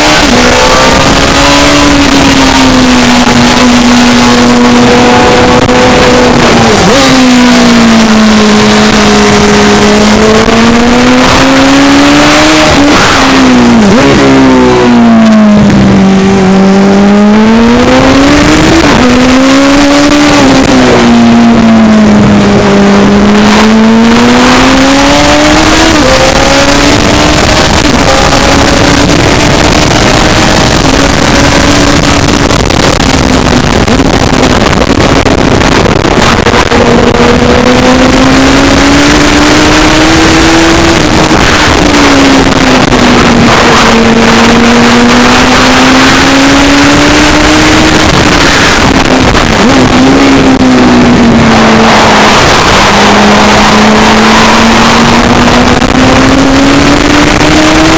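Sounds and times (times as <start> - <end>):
heavy rushing noise: 0.0 - 57.9
motorcycle engine revving: 0.0 - 57.9.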